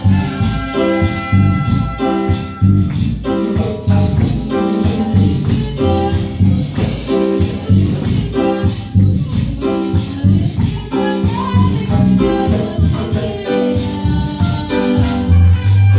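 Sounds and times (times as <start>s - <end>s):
maracas shaking: 0.0s - 15.9s
upbeat latin-style praise music: 0.0s - 15.9s.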